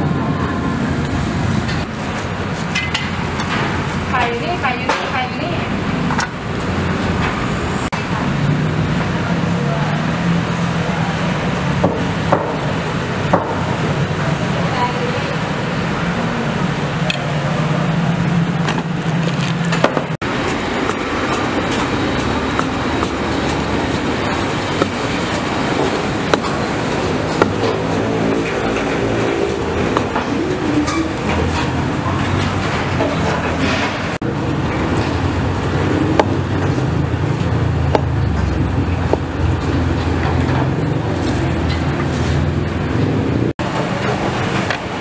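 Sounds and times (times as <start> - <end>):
street stall background noise: 0.0 - 45.0
traffic: 0.0 - 45.0.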